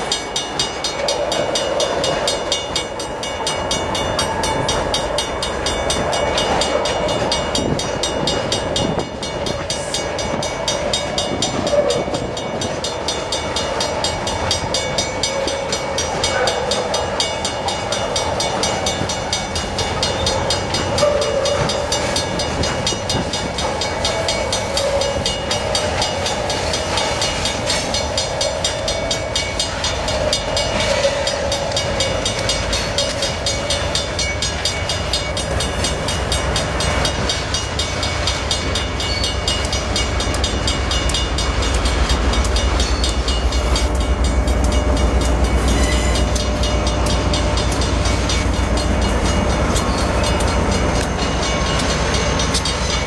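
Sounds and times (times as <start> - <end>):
train cars rumbling on track: 0.0 - 53.0.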